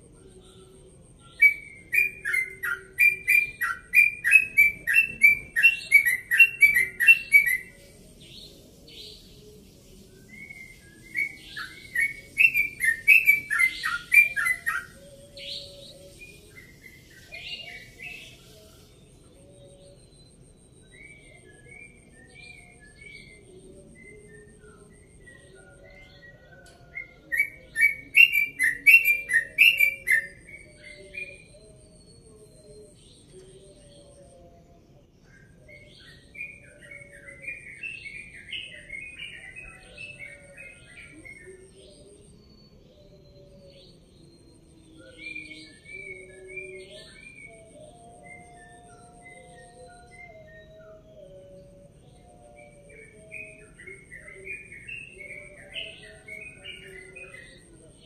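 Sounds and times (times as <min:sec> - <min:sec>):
bird singing rapid rolling song: 0:00.0 - 0:58.0.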